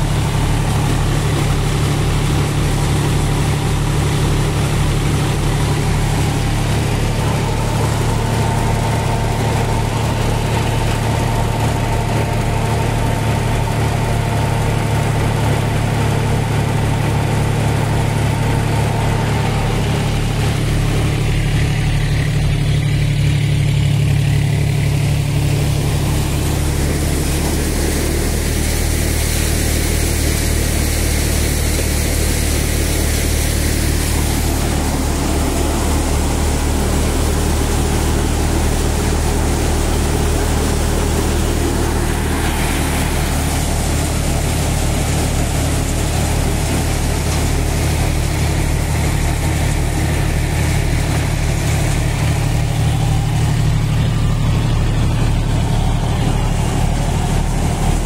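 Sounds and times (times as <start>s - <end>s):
thresher rushing noise: 0.0s - 58.0s
tractor engine running: 0.0s - 58.0s.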